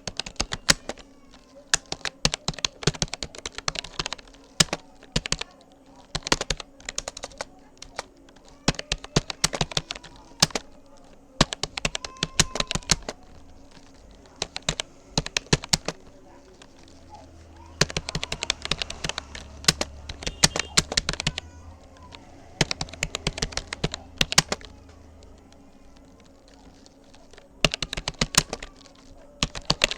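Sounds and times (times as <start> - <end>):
computer keyboard typing: 0.0 - 29.9.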